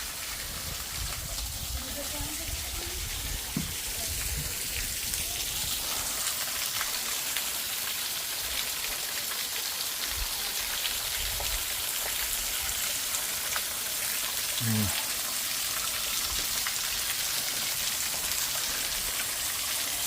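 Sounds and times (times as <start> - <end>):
small waterfall splashing on rock: 0.0 - 20.0.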